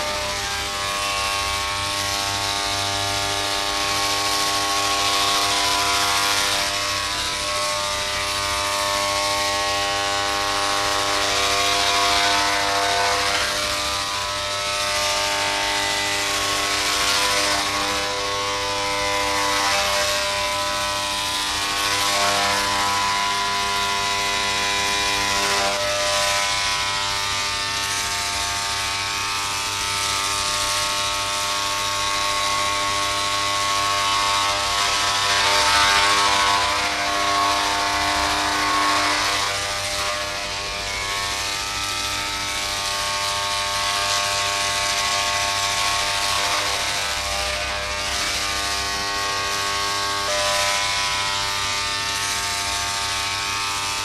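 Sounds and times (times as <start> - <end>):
electric hair clippers buzzing: 0.0 - 35.0, 35.6 - 54.0.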